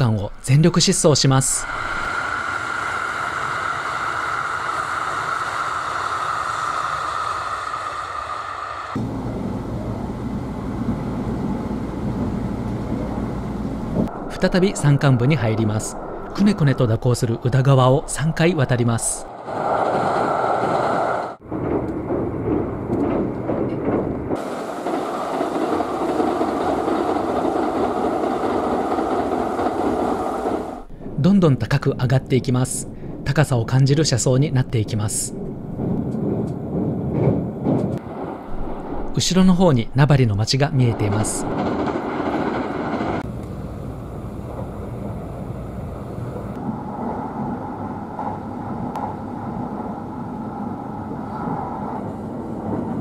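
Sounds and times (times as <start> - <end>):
electric train passing at speed: 0.0 - 31.2, 34.1 - 53.0
high hum of train: 0.0 - 53.0.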